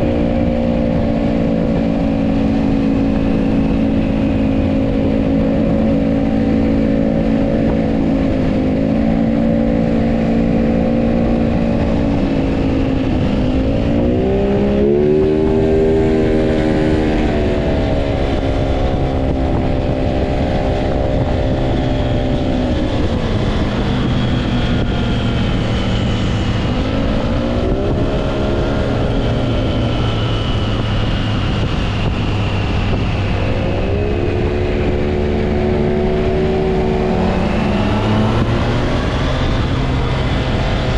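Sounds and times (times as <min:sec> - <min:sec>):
motorcycle engine on the road: 0:00.0 - 0:40.9.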